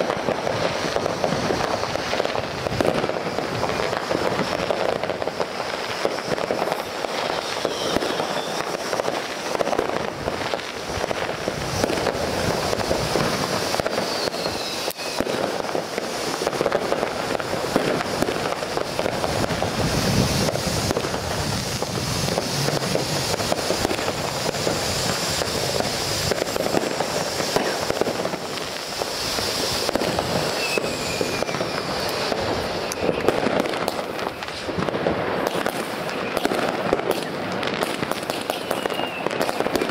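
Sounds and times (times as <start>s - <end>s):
firework fountain hissing and crackling: 0.0s - 39.9s
firework pops and bangs: 0.0s - 39.9s.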